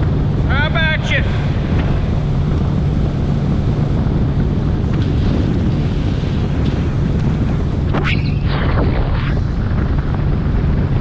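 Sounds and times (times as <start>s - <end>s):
outboard engine drone: 0.0s - 11.0s
wind buffeting microphone: 0.0s - 11.0s.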